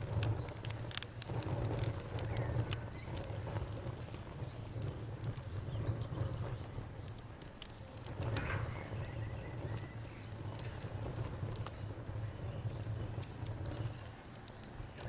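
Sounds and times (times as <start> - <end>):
campfire crackling and popping: 0.0 - 15.0
crickets chirping: 0.0 - 15.0.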